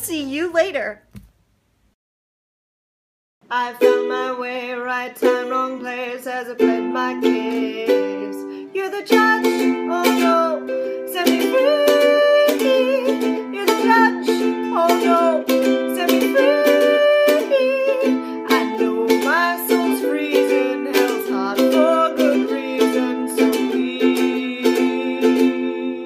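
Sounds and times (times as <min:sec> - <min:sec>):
ukulele strumming: 0:03.5 - 0:26.0
woman singing: 0:03.5 - 0:26.0.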